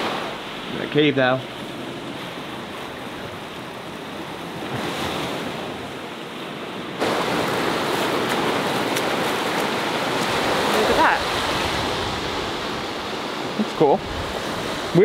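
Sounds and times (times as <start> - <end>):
ocean surf breaking: 0.0 - 15.0
shallow water washing and swirling: 0.0 - 15.0.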